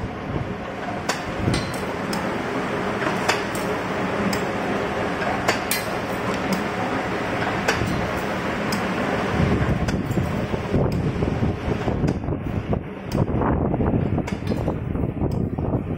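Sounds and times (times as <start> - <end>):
wire-forming machine running: 0.0 - 15.9.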